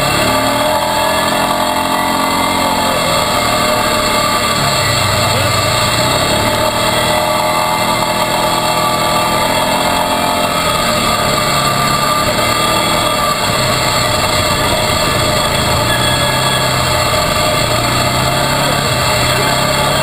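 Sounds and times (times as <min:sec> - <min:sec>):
quad engine running: 0:00.0 - 0:20.0
rushing noise: 0:00.0 - 0:20.0.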